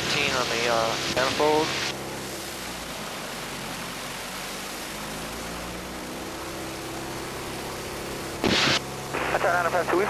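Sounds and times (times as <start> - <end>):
aircraft engine and propeller droning: 0.0 - 10.0.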